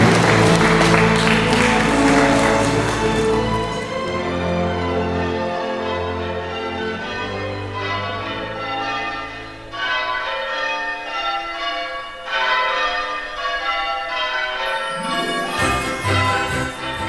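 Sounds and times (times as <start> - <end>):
bells ringing in music: 0.0 - 4.8, 6.8 - 17.0.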